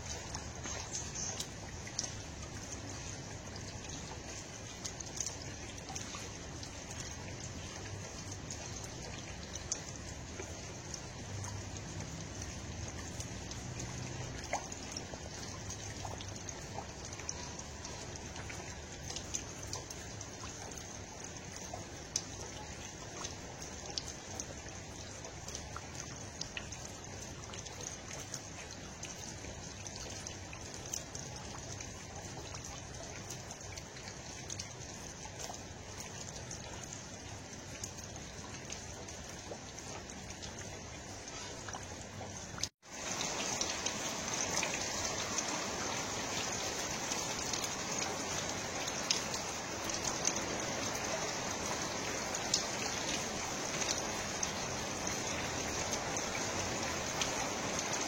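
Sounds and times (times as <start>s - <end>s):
steady water noise: 0.0s - 58.0s.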